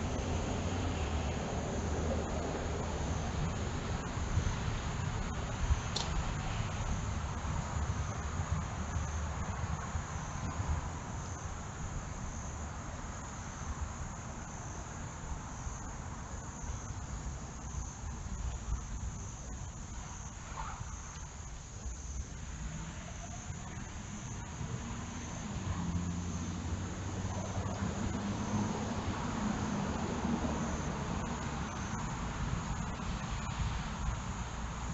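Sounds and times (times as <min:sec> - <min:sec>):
high-pitched insect chorus: 0:00.0 - 0:34.9.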